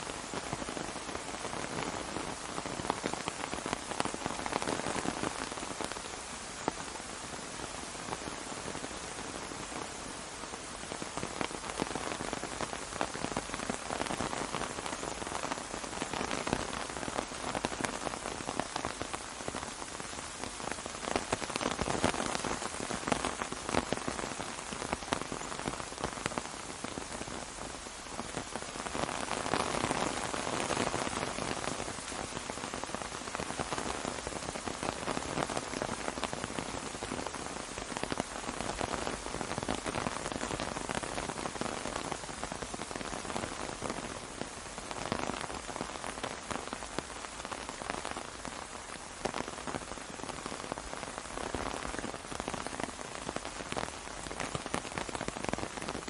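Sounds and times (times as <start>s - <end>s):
rain falling on an umbrella: 0.0s - 56.0s.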